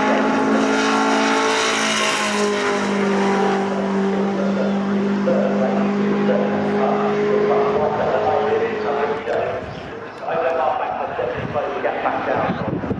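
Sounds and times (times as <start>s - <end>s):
truck engines revving high: 0.0s - 12.9s.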